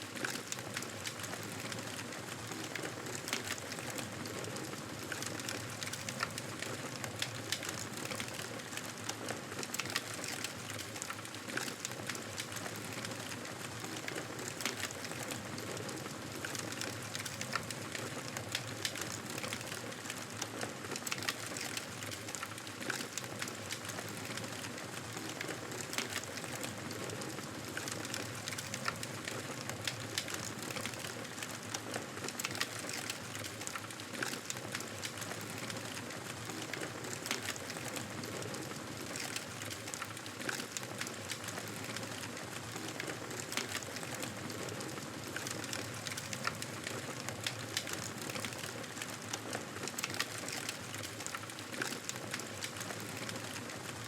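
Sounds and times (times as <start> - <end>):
campfire wood crackling: 0.0 - 54.0.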